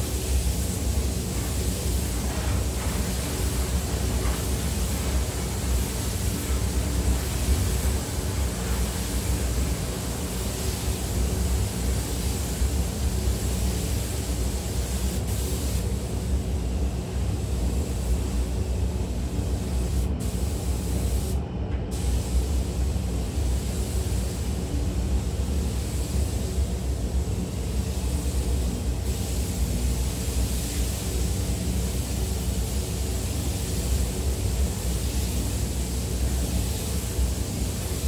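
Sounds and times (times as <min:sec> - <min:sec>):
ventilation rushing air: 0:00.0 - 0:38.0.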